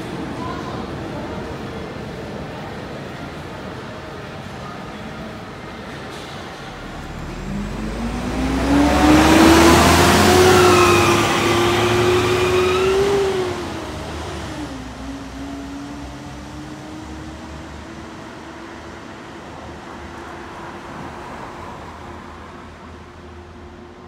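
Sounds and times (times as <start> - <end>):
bus engine accelerating: 1.1 - 24.0
road noise: 3.4 - 24.0.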